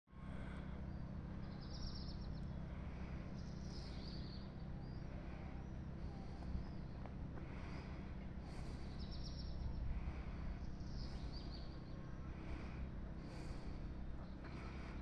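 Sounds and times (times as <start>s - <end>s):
steady low rumble: 0.1s - 15.0s
small birds chirping: 0.2s - 15.0s.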